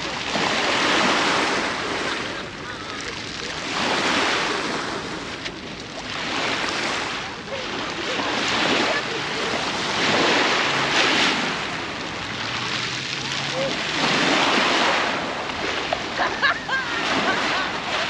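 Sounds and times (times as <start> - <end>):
small waves washing over pebbles: 0.0 - 18.0.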